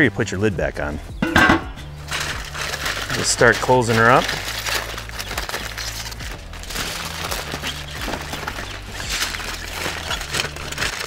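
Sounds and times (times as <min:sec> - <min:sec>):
background music with bass line: 0:00.0 - 0:11.0
aluminium foil crinkling: 0:01.7 - 0:11.0.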